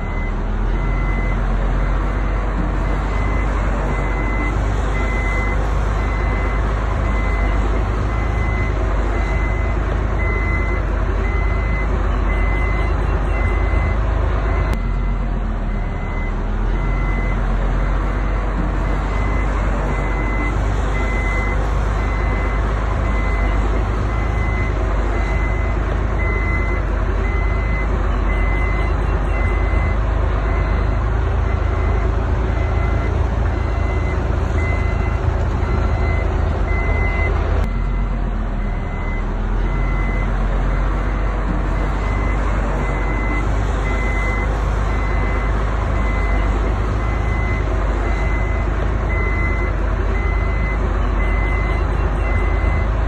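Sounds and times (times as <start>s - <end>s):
reversing alarm beeps: 0.0s - 1.4s, 2.1s - 17.4s, 18.1s - 40.3s, 41.0s - 52.9s
heavy diesel engine running: 0.0s - 53.0s.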